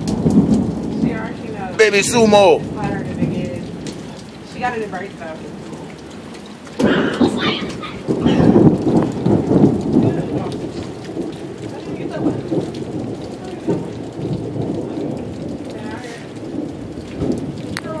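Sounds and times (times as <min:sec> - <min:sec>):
rolling thunder rumble: 0:00.0 - 0:18.0
steady rain: 0:00.0 - 0:18.0.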